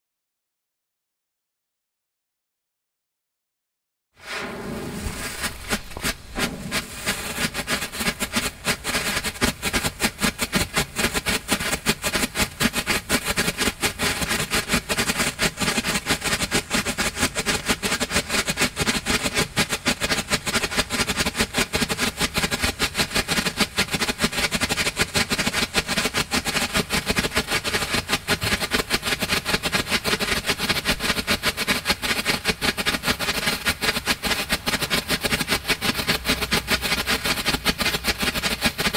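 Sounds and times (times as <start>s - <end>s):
strobe fireworks crackling: 4.2s - 38.9s.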